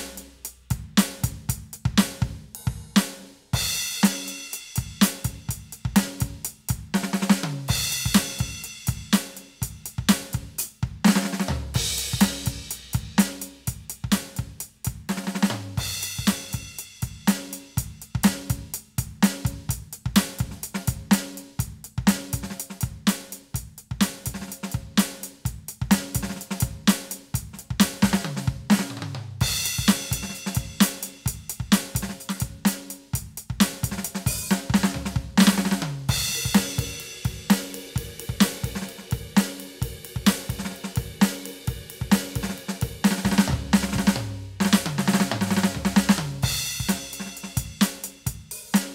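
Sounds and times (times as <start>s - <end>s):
electronic drum kit groove: 0.0s - 48.9s.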